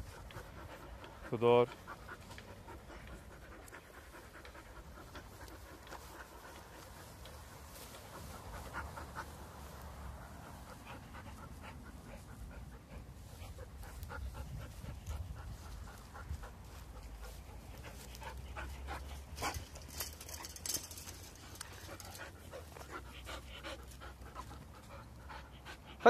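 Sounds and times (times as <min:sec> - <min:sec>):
dog panting: 0:00.0 - 0:26.0.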